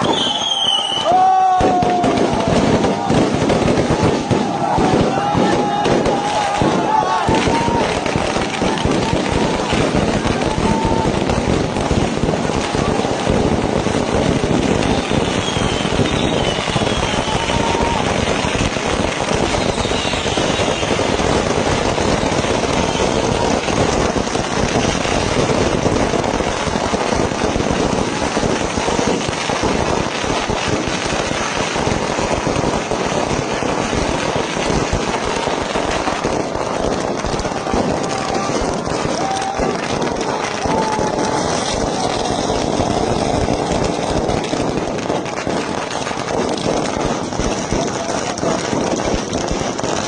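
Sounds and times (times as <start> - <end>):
firecrackers crackling: 0.0 - 50.0.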